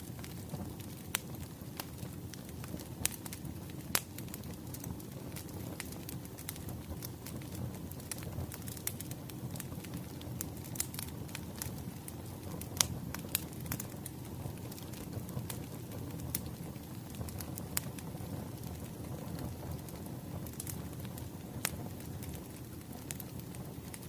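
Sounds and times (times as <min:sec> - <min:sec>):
log fire crackling: 0:00.0 - 0:24.0.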